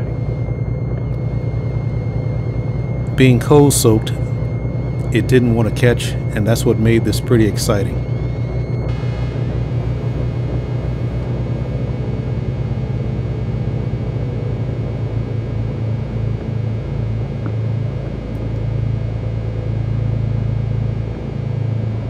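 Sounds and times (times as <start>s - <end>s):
piston aircraft engine droning: 0.0s - 22.0s.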